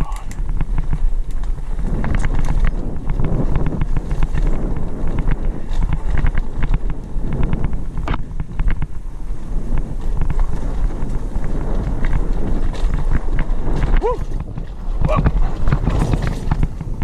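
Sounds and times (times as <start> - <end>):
bike rattling clicks: 0.0 - 17.0
tyres rumbling on dirt: 0.0 - 17.0
wind buffeting microphone: 0.0 - 17.0.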